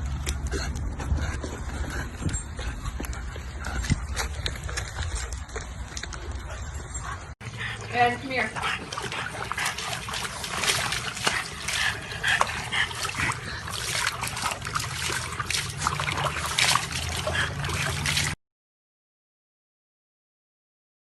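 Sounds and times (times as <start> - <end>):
water splashing and dribbling: 0.0 - 18.4.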